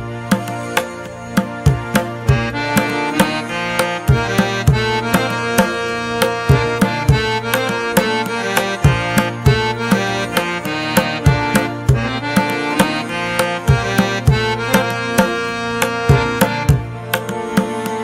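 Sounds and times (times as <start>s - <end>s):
music with drum beat: 0.0s - 18.0s.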